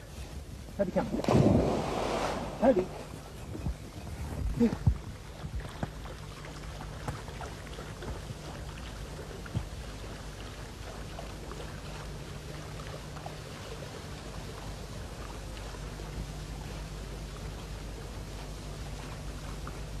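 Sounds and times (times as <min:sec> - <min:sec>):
dog swimming through water: 0:00.0 - 0:20.0
steady low hum: 0:00.0 - 0:20.0
water splashing and lapping: 0:00.0 - 0:20.0.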